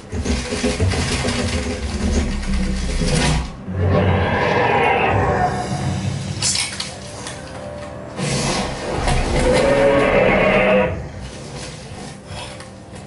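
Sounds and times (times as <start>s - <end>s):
rumbling film sound effects: 0.0s - 13.0s.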